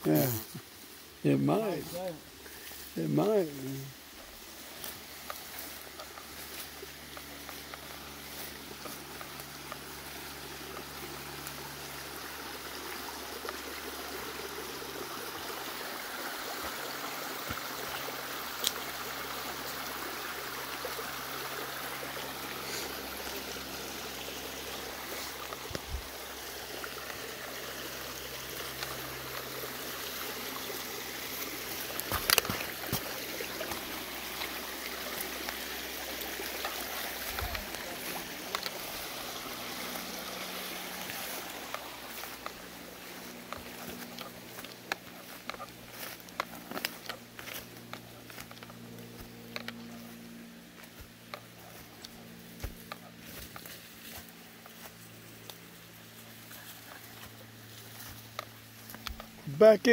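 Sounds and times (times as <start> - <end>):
creek trickling: 0.0 - 59.9.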